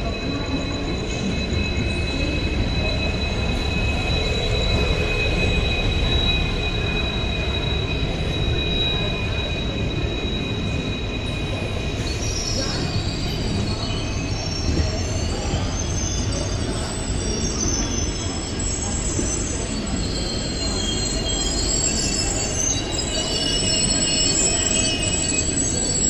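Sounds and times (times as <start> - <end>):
high-pitched wheel squeal: 0.0 - 26.0
train wheels rumbling on rail: 0.0 - 26.0.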